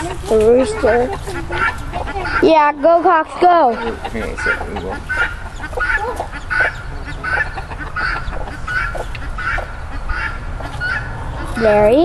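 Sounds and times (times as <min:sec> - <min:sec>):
guinea fowl calling: 0:00.0 - 0:12.0.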